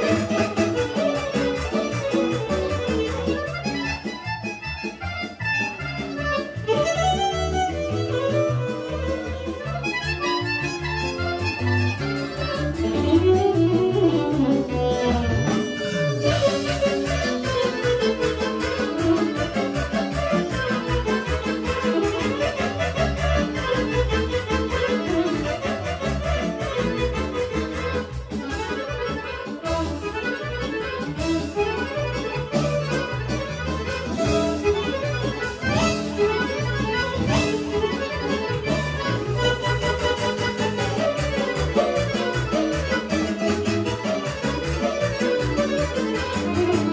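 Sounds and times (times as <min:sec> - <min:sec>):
accordion: 0:00.0 - 0:46.9
folk dance music with violin: 0:00.0 - 0:46.9.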